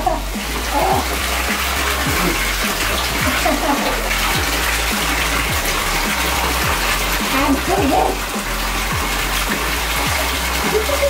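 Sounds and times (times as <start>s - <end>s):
tap water rushing into bathtub: 0.0s - 11.0s.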